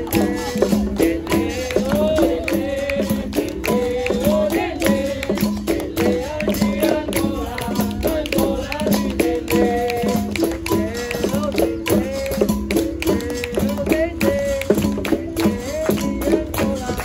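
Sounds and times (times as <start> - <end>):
person singing: 0.0 - 17.0
sharp percussion strokes: 0.0 - 17.0.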